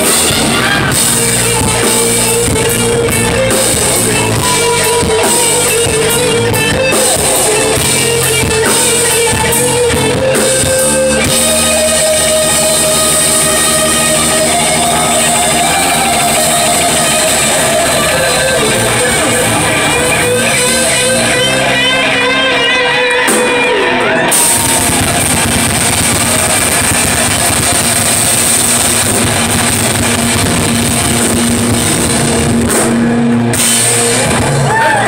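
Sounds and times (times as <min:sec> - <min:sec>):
electric guitar bent notes: 0:00.0 - 0:35.0
live rock band playing: 0:00.0 - 0:35.0.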